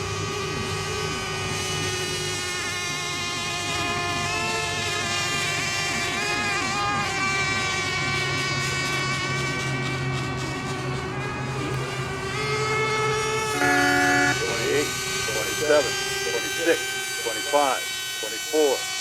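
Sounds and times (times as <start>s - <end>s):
model boat engines whining: 0.0s - 19.0s.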